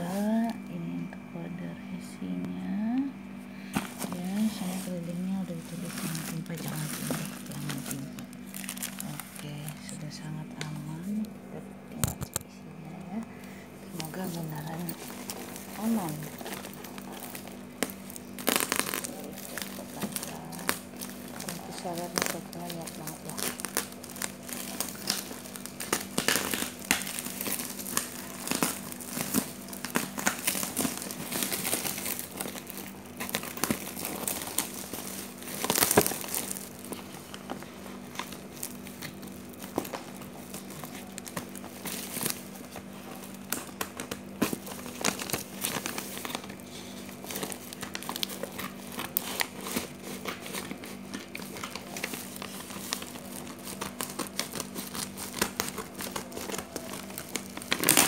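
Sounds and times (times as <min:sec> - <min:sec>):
plastic wrapping crinkling and tearing: 0:03.6 - 0:11.3, 0:13.1 - 0:58.0.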